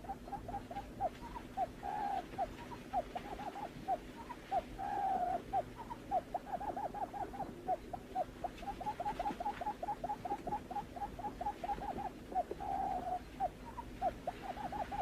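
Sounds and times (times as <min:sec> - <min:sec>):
buttonquail hooting call: 0:00.0 - 0:15.0.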